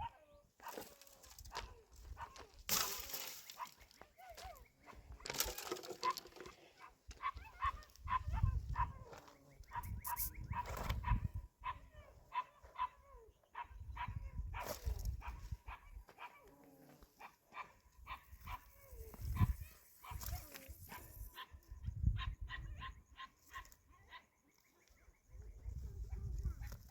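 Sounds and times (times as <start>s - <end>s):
dog barking and yipping: 0.0s - 2.6s, 3.5s - 16.6s, 17.2s - 24.2s.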